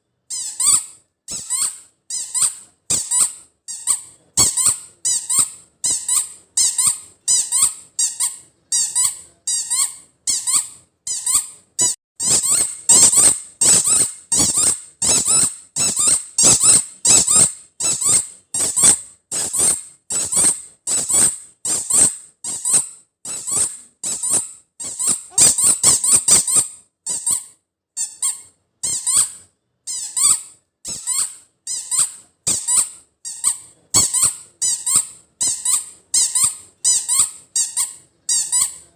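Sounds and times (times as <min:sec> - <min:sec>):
rubber toy ball squeaking: 0:00.3 - 0:38.9.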